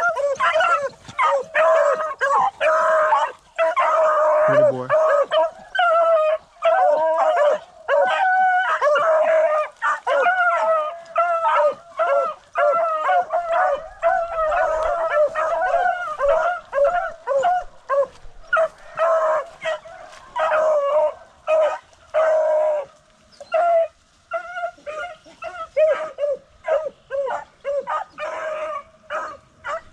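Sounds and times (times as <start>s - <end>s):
dogs baying in chorus: 0.0s - 29.9s.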